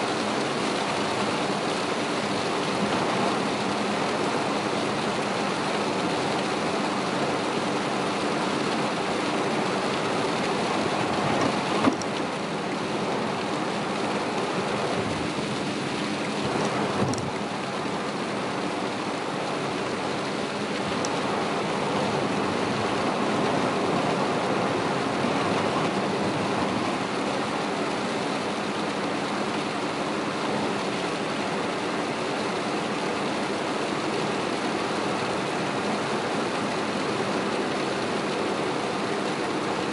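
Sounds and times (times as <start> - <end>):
low engine and road hum: 0.0 - 39.8
heavy rain on car: 0.0 - 39.9
tyres on flooded road: 0.0 - 39.9.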